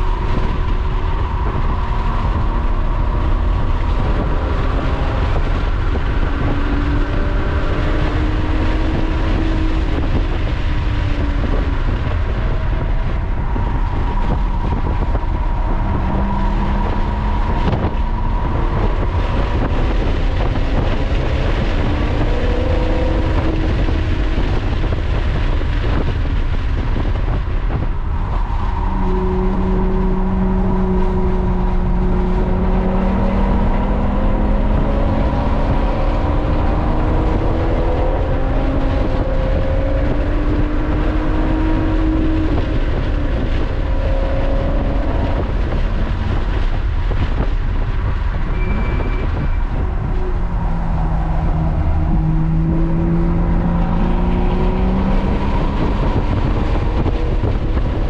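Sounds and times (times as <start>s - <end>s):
car engine accelerating hard: 0.0s - 58.0s
wind noise: 0.0s - 58.0s.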